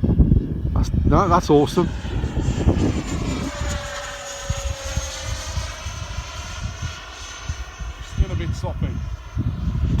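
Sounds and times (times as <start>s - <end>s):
model jet fan whine: 0.0s - 10.0s
wind rumbling on microphone: 0.0s - 10.0s.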